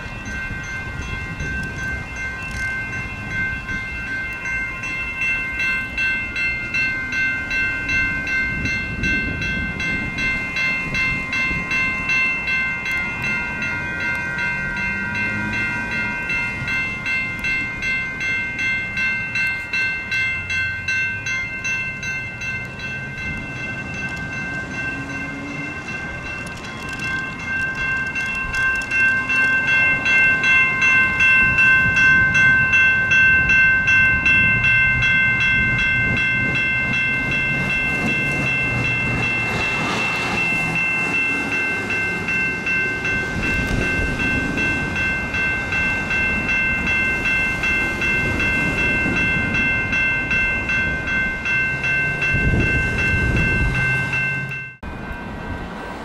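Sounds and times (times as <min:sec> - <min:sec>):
railroad crossing bells ringing: 0:00.0 - 0:56.0
road traffic rumble: 0:00.0 - 0:56.0.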